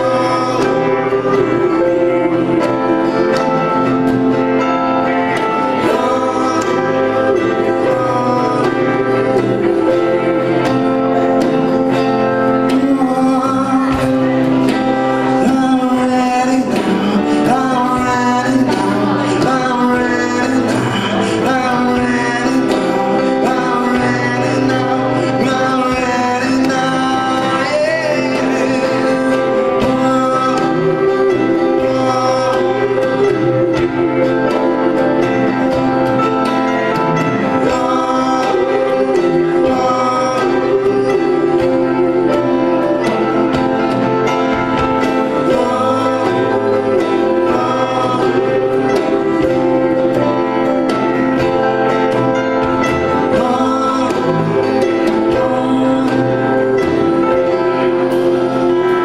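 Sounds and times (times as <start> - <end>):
live band playing rock ballad: 0.0 - 59.0
man singing: 0.0 - 59.0.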